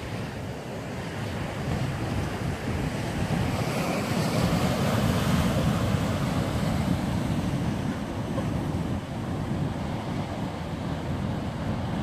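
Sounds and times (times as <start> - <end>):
surf breaking on rocky shore: 0.0 - 12.0
wind buffeting microphone: 0.0 - 12.0.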